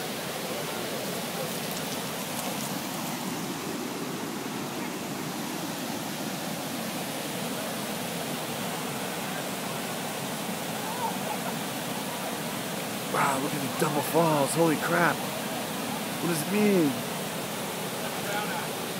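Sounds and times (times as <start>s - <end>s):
water rushing over waterfall: 0.0s - 18.9s.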